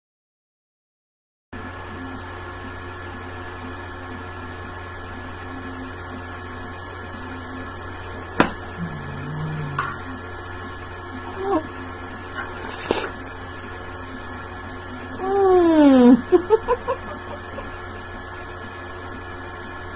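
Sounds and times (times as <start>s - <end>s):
electrical hum: 1.6s - 19.9s.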